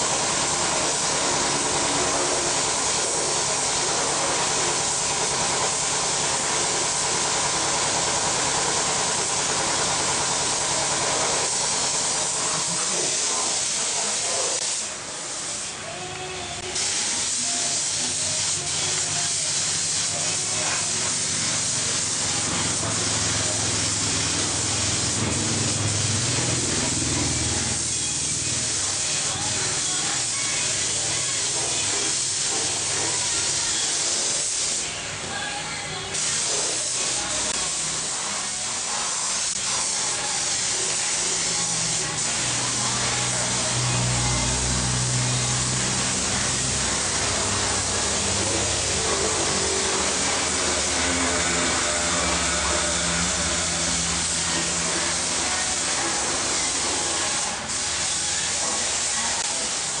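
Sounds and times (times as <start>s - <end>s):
paint spray gun hissing: 0.0s - 35.2s, 35.9s - 60.0s.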